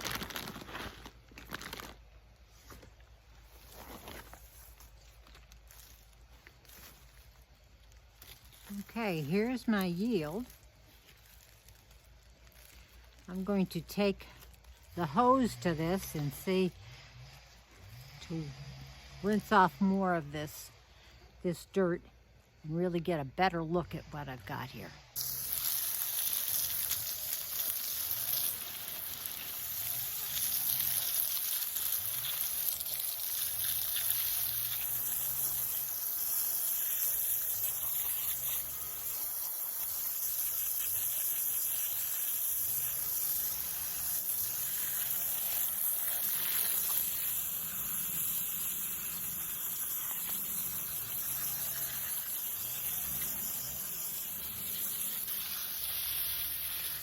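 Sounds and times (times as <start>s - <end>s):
garden hose spraying water: 0.0s - 57.0s.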